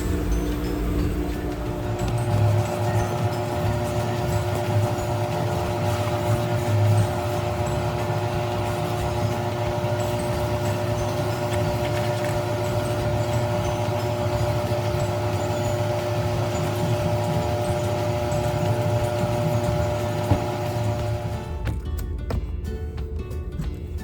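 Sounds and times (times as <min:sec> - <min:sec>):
steady motor hum: 0:00.0 - 0:24.0.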